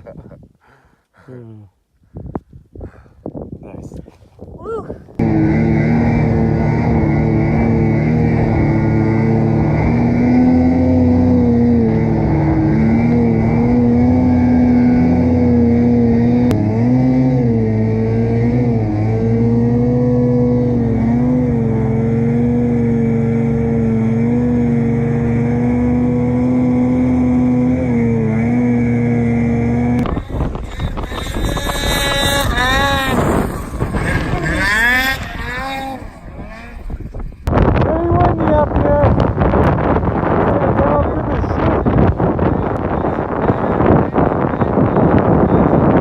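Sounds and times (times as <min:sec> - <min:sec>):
snowmobile engine running hard: 0:05.2 - 0:46.0.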